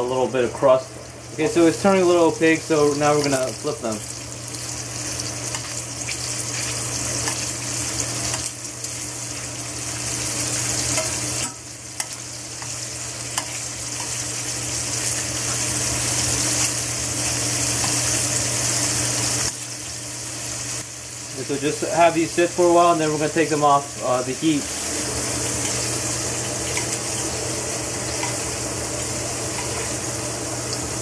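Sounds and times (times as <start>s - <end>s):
shrimp sizzling in a pan: 1.5s - 31.0s.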